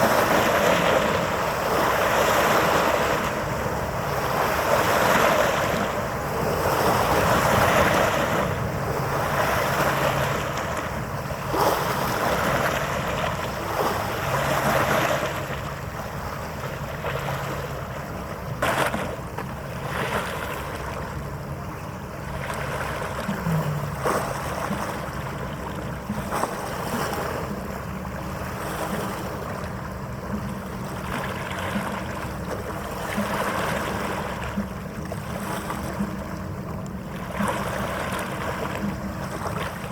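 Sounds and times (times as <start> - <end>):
waves washing: 0.0 - 39.9.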